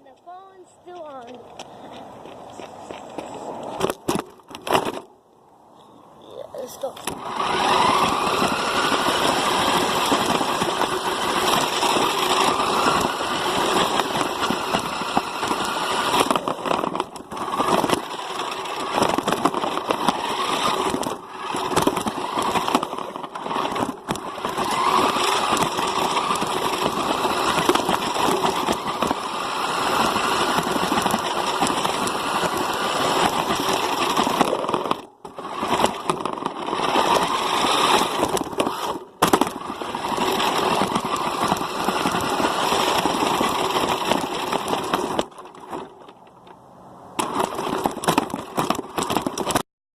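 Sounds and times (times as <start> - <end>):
rough crackling engine noise: 0.0 - 49.6.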